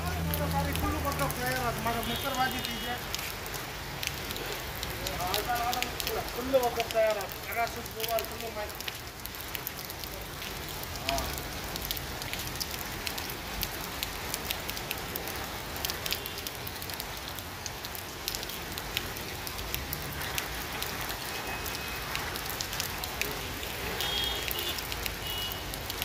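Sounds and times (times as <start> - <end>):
heavy rain on pavement and cars: 0.0 - 26.0
raindrops clicking: 0.0 - 26.0.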